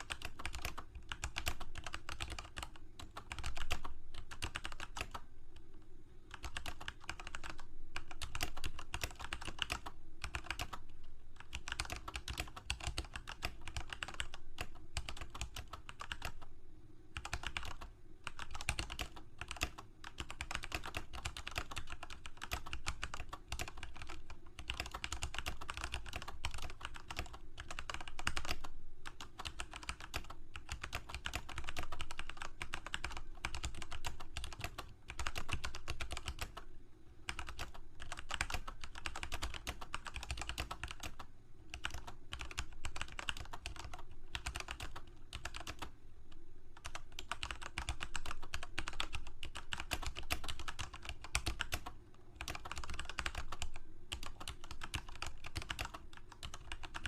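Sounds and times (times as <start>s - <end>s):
keyboard typing clicks: 0.0s - 5.2s, 6.3s - 16.4s, 17.2s - 36.6s, 37.3s - 45.9s, 46.8s - 57.0s.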